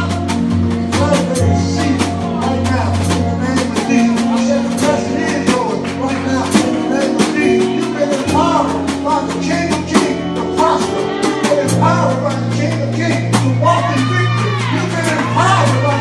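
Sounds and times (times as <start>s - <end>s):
gospel band playing: 0.0s - 16.0s
person singing: 0.0s - 16.0s.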